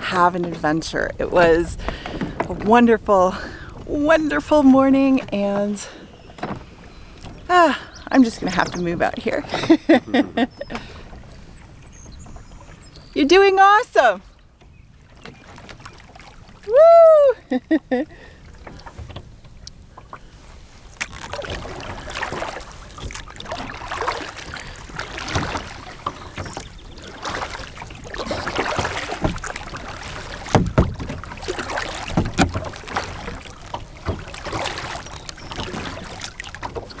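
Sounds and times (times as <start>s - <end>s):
kayak paddle splashing water: 0.0s - 37.0s.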